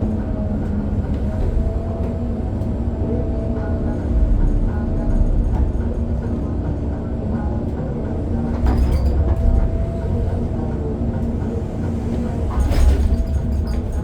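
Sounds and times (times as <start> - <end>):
heavy diesel engines rumbling: 0.0 - 14.0.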